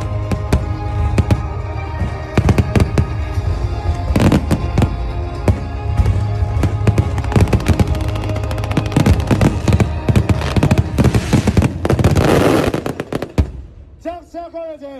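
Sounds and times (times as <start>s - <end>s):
fireworks bangs and crackles: 0.0s - 13.9s
music playing: 0.0s - 14.9s.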